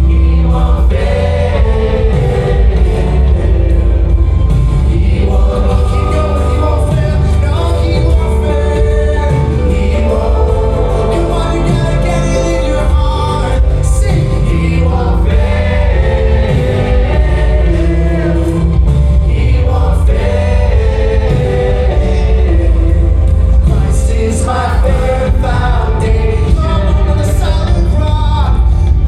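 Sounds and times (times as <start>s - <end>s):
band with heavy bass and drums: 0.0s - 29.0s
congregation singing: 0.0s - 29.0s.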